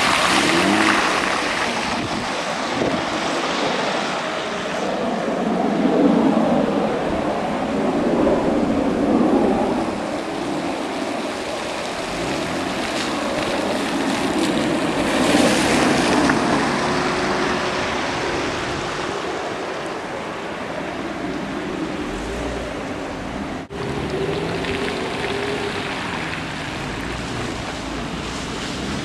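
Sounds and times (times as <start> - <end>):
cars splashing through floodwater: 0.0 - 29.0.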